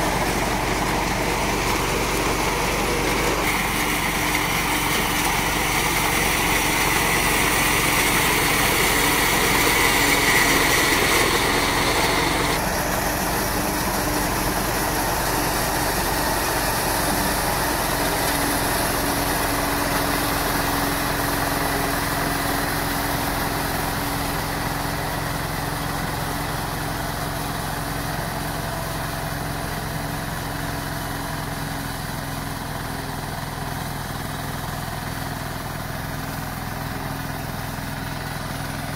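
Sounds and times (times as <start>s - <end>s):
small harvester engine running: 0.0s - 38.9s.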